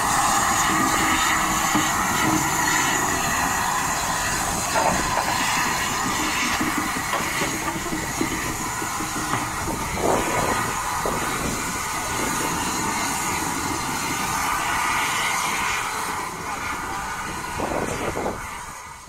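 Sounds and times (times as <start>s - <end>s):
steam hissing: 0.0s - 19.0s
steam locomotive puffs: 0.0s - 19.0s.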